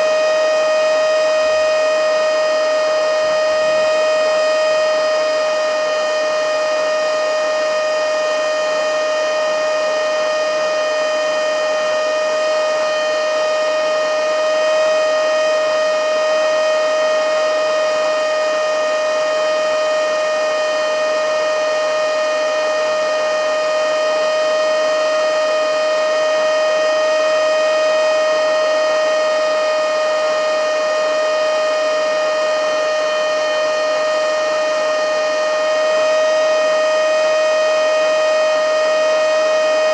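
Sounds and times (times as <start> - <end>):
mini vacuum cleaner whine: 0.0 - 39.9.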